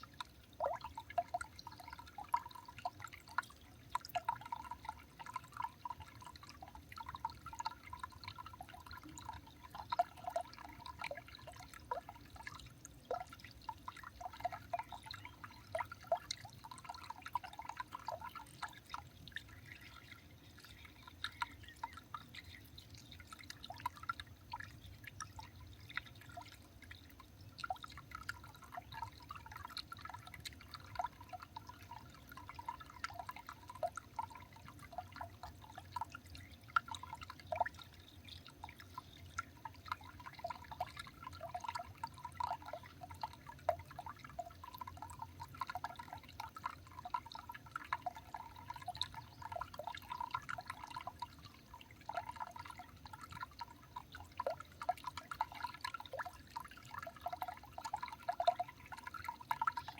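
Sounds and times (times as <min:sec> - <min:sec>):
water dripping: 0:00.0 - 0:59.9.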